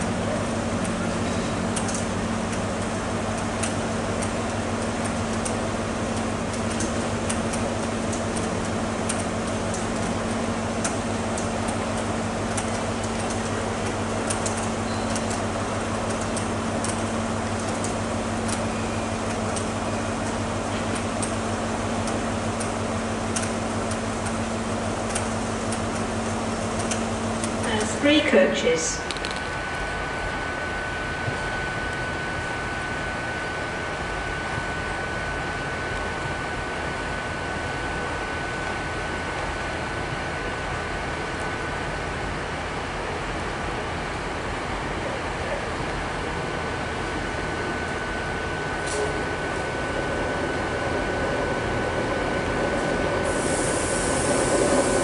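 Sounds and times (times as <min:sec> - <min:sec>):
diesel train engines idling: 0:00.0 - 0:55.0.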